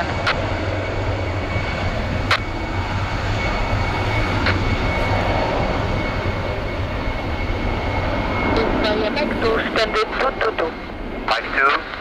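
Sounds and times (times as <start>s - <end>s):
jet engines rumbling and whining: 0.0s - 12.0s.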